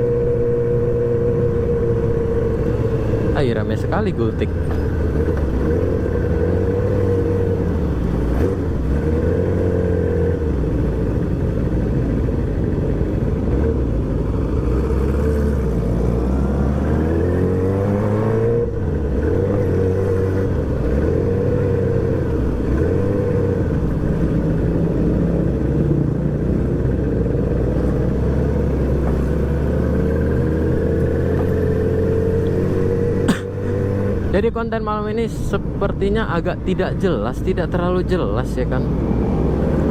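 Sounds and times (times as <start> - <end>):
motorcycle engine revving: 0.0 - 35.5.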